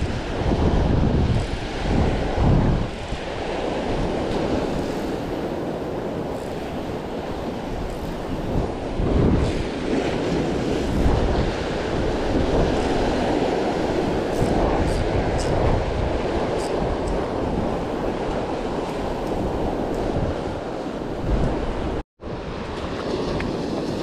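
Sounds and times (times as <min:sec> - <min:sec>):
ocean surf breaking on rocks: 0:00.0 - 0:24.0
wind buffeting microphone: 0:00.0 - 0:24.0.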